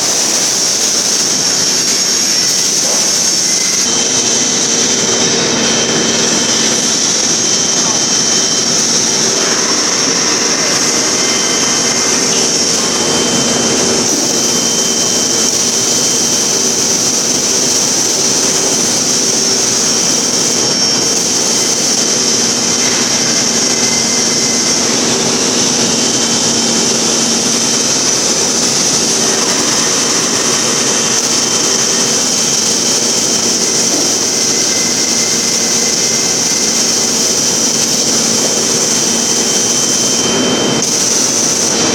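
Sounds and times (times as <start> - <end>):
industrial machinery drone: 0.0 - 41.9.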